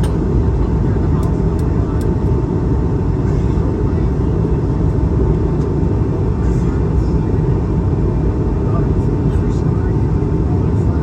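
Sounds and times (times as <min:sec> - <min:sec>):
aircraft cabin roar: 0:00.0 - 0:11.0
faint engine hum: 0:00.0 - 0:11.0.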